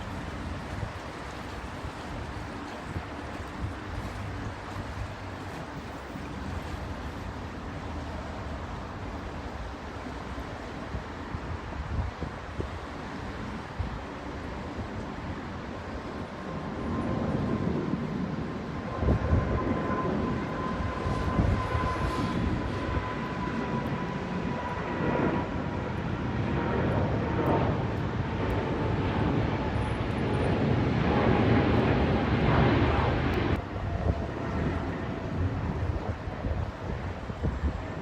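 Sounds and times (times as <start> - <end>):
jet engines roaring with whine: 0.0 - 38.0.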